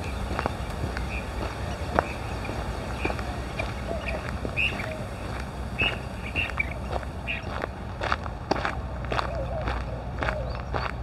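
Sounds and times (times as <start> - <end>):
birds calling: 0.0 - 11.0
footsteps crunching on gravel: 0.0 - 11.0
wind on microphone: 0.0 - 11.0.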